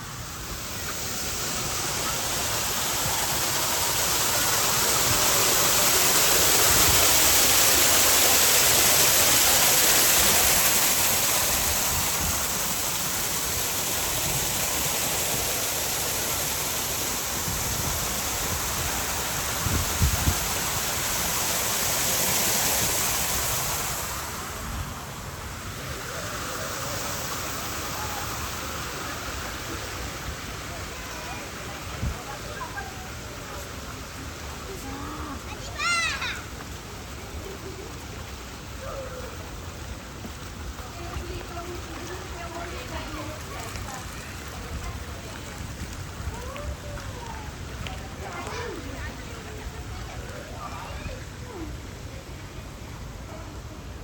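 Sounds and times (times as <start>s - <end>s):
water feature rushing: 0.0s - 54.0s.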